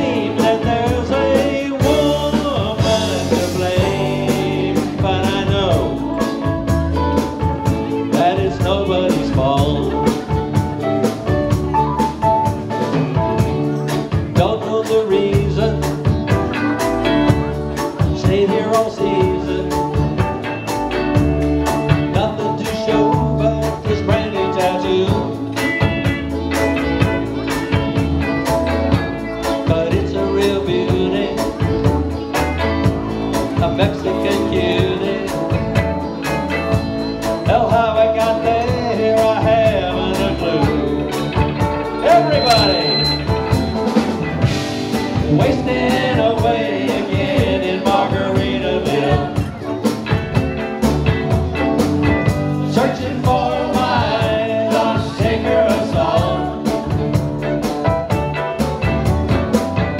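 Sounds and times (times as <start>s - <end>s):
person singing: 0.0s - 11.7s, 13.4s - 20.3s, 21.9s - 25.7s, 26.4s - 44.1s, 44.9s - 50.1s, 52.6s - 57.2s
bass line: 0.0s - 59.9s
drum beat: 0.0s - 59.9s
electric guitars: 0.0s - 59.9s.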